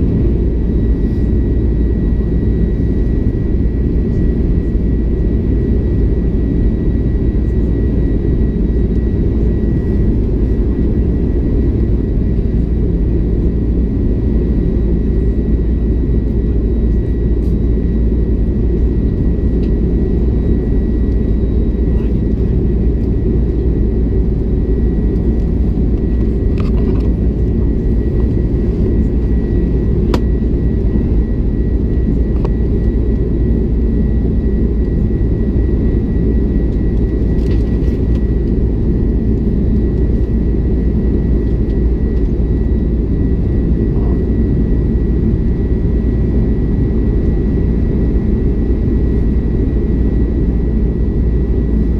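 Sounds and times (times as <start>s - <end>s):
jet cabin engine rumble: 0.0s - 51.9s.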